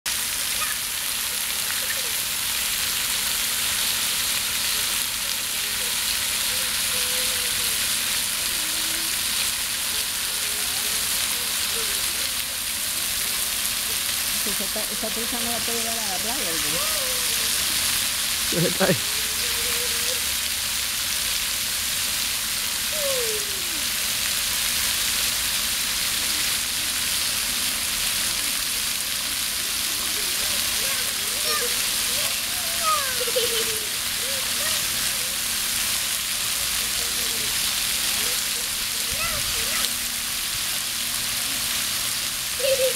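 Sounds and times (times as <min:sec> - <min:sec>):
water jets splattering on concrete: 0:00.1 - 0:42.9.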